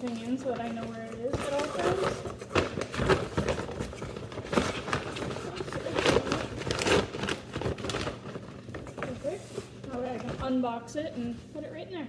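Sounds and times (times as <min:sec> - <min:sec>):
plastic bag crinkling and rustling: 0:00.0 - 0:10.7.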